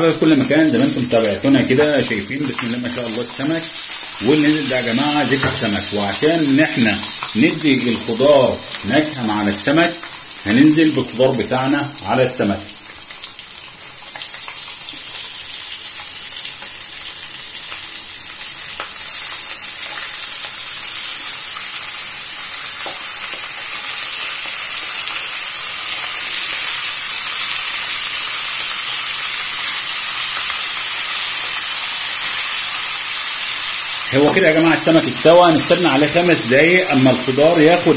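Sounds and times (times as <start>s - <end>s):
fish sizzling in frying pan: 0.0s - 37.9s.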